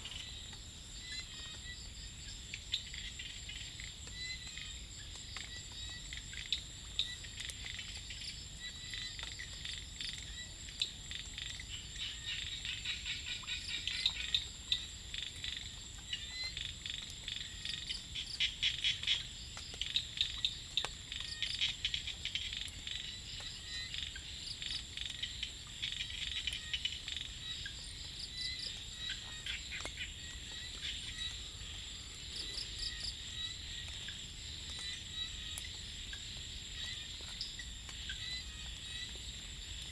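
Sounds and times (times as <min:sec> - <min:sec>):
frogs clicking calls: 0:00.0 - 0:39.9
high insect trill: 0:00.0 - 0:39.9.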